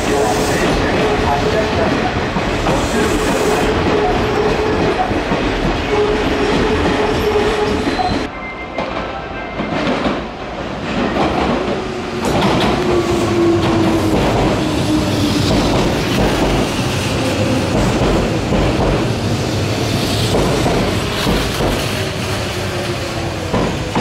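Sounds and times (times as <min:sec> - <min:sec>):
train wheels clattering: 0:00.1 - 0:22.7, 0:23.4 - 0:24.0.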